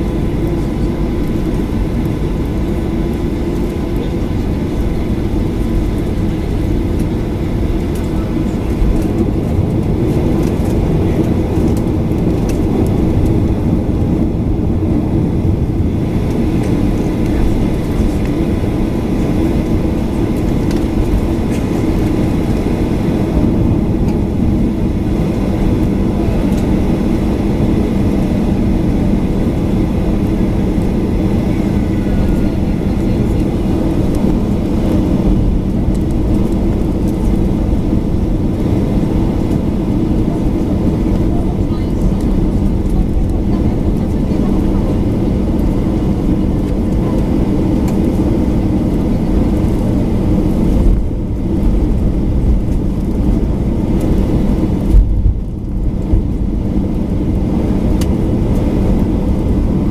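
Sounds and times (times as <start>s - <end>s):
jet engines hum in cabin: 0.0s - 59.9s.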